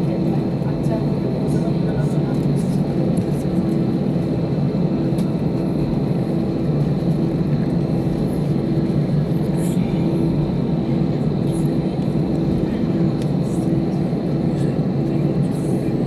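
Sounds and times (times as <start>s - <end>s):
aircraft cabin low rumble: 0.0s - 16.0s.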